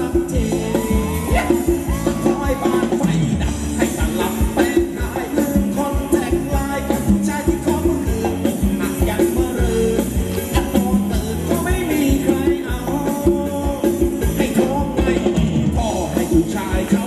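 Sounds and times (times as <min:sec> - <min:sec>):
live dance band playing: 0:00.0 - 0:17.0
steady drum beat: 0:00.0 - 0:17.0.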